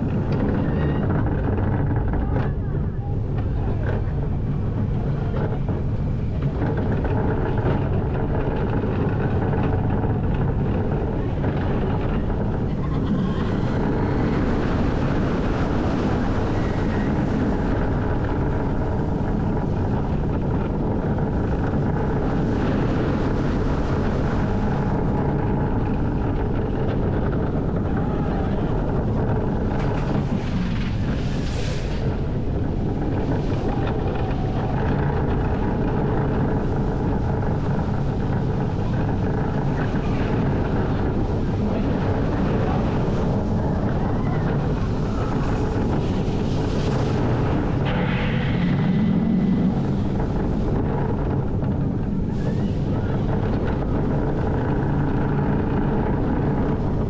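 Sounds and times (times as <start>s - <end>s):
roller coaster train rumbling: 0.0s - 57.0s
wind buffeting microphone: 0.0s - 57.0s.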